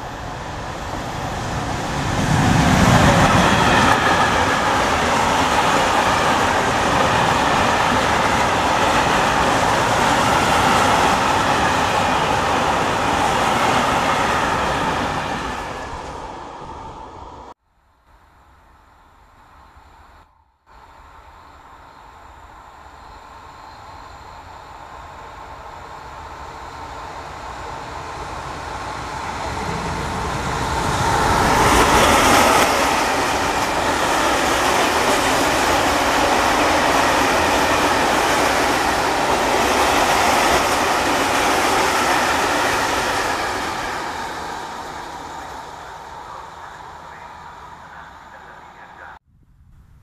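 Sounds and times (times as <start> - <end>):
freight train rumbling past: 0.0 - 17.6, 20.8 - 49.2.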